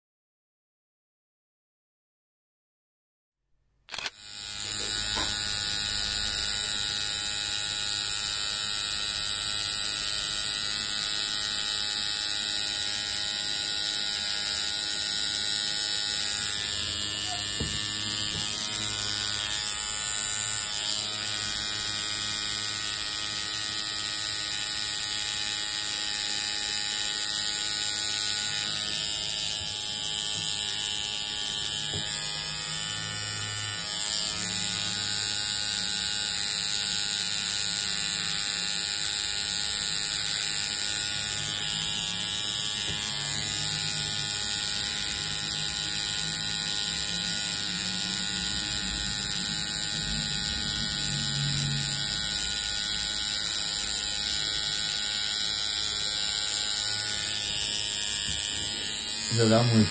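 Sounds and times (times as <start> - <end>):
tattoo machine buzzing: 3.9 - 59.9.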